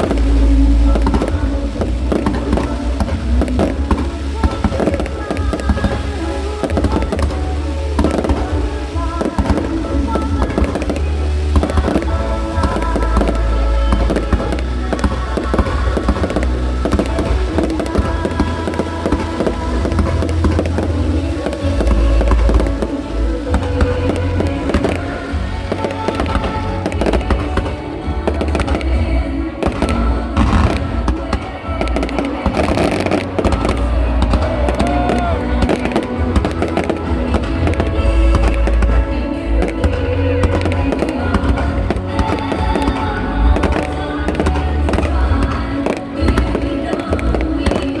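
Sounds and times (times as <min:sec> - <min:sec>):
fireworks banging and crackling: 0:00.0 - 0:48.0
loud music with heavy bass: 0:00.0 - 0:48.0.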